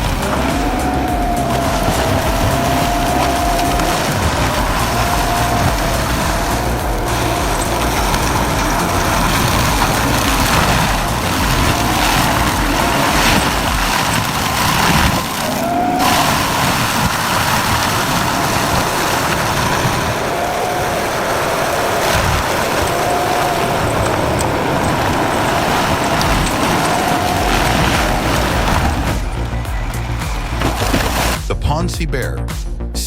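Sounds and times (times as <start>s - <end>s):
heavy forestry machine running: 0.0s - 31.8s.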